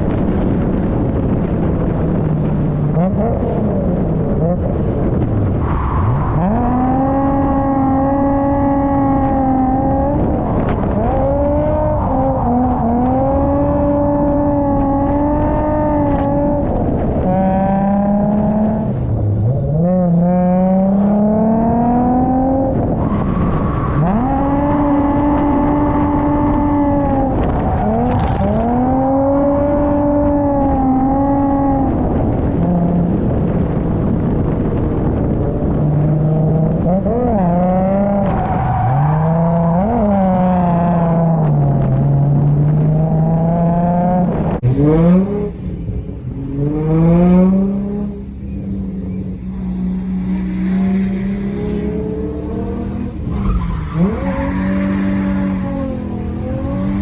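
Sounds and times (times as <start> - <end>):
car engine at high revs: 0.0 - 57.0
tyre and road noise: 0.0 - 57.0.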